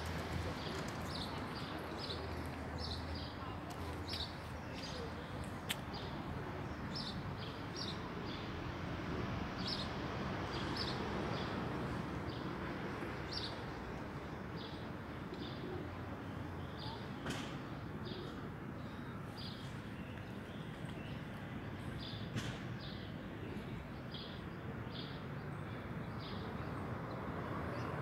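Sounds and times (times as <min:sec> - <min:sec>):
street traffic hum: 0:00.0 - 0:28.0.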